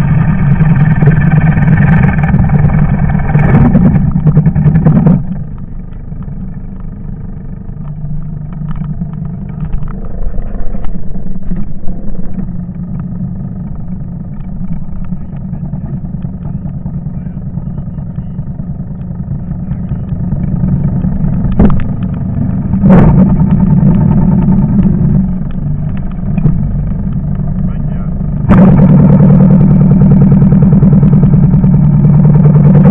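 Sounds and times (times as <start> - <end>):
farm machine engine running: 0.0 - 32.9.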